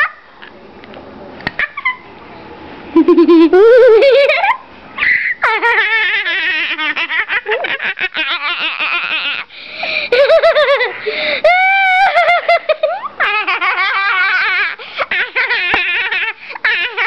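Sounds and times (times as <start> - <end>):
girl laughing: 3.0 - 17.0.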